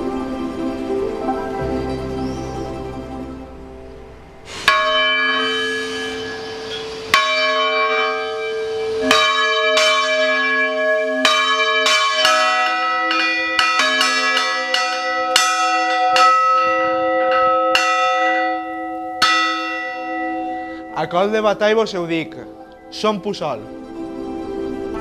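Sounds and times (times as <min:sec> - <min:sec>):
church bells ringing: 0:00.0 - 0:25.0.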